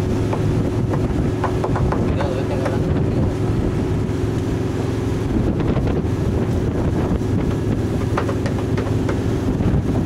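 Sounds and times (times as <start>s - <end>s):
boat engine running: 0.0s - 10.0s
wind buffeting microphone: 0.0s - 10.0s.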